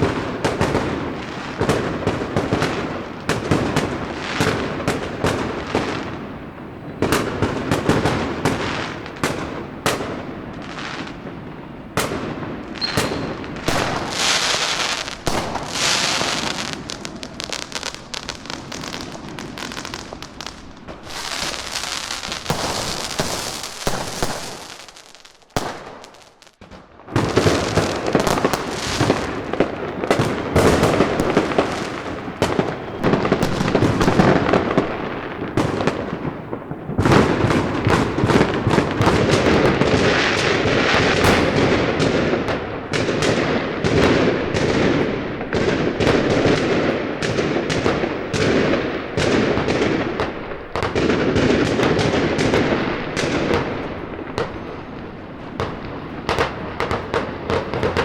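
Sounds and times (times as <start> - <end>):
fireworks banging and crackling: 0.0 - 58.0.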